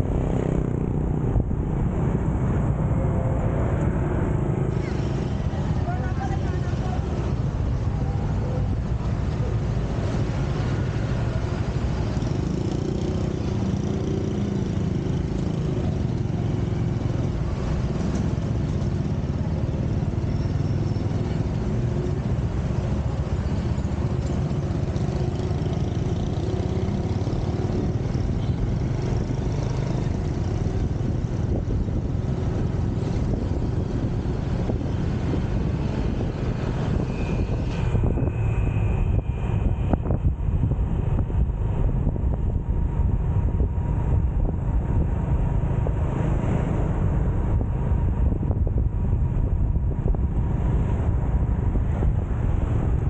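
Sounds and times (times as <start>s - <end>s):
motorcycle engine riding: 0.0s - 53.0s.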